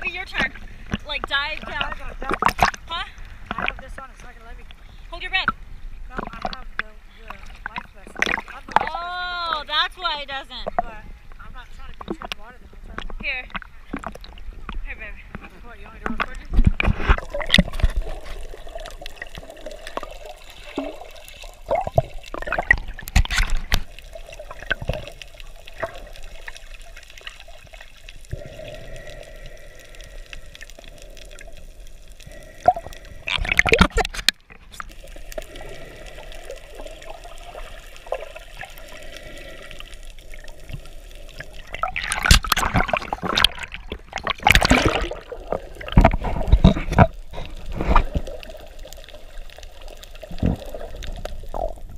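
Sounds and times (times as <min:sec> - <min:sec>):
splashing and bubbles: 0:00.0 - 0:51.9
underwater sloshing and bubbling: 0:00.0 - 0:51.9.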